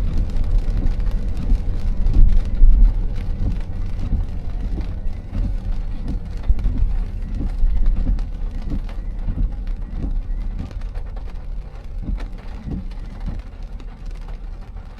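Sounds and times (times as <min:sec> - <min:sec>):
rain tapping on car: 0:00.0 - 0:14.9
road rumble with tyre noise: 0:00.0 - 0:14.9.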